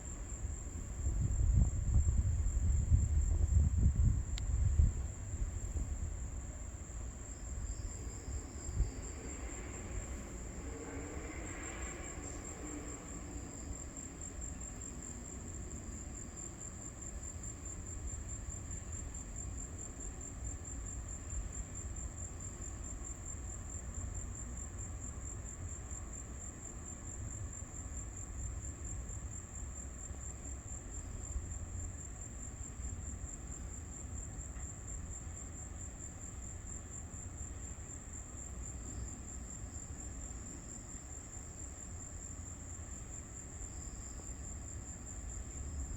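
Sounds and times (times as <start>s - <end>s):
insects trilling: 5.0s - 45.9s.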